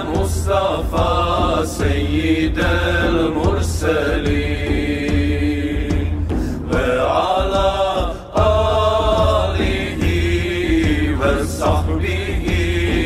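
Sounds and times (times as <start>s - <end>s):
male vocal group singing: 0.0s - 13.0s.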